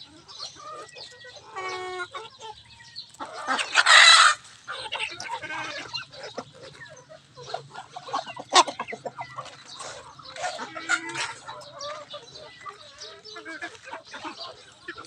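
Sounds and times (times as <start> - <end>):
chickens clucking: 0.0 - 15.0
chickens pecking taps: 0.1 - 15.0.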